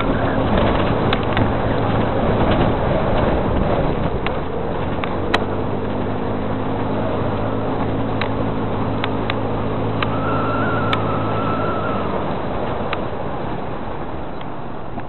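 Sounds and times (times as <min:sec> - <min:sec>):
engine hum: 0:00.0 - 0:15.0
noisy rush: 0:00.0 - 0:15.0.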